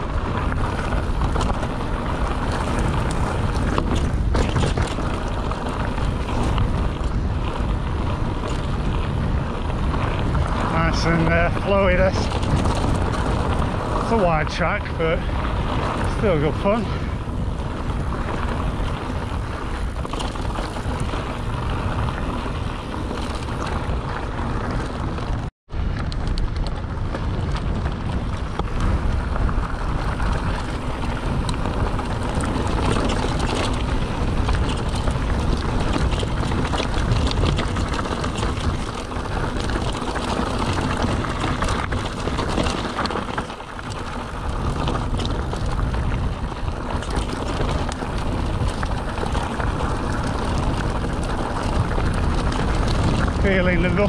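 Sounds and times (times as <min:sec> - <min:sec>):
bike tyres on loose track: 0:00.0 - 0:54.0
wind rushing over microphone: 0:00.0 - 0:54.0.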